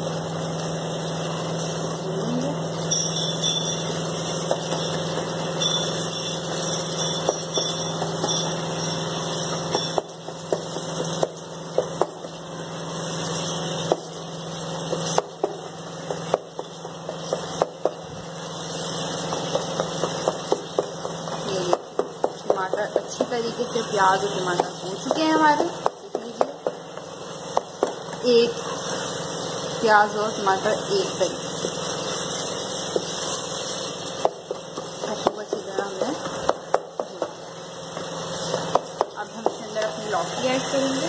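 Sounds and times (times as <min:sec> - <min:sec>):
masala frying in a pot: 0:00.0 - 0:41.0.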